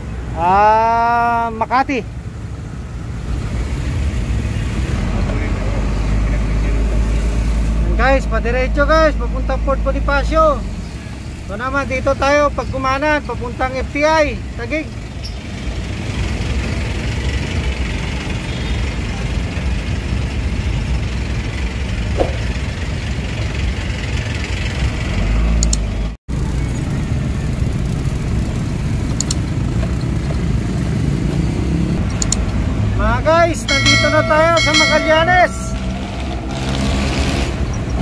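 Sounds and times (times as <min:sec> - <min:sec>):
road noise: 0:00.0 - 0:38.0
vehicle engine rumble: 0:00.0 - 0:38.0.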